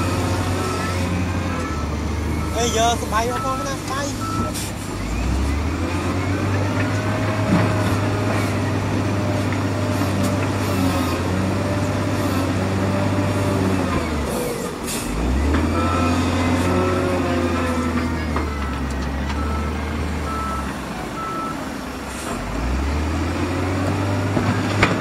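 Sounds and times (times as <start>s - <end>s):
diesel engine running hard: 0.0s - 25.0s.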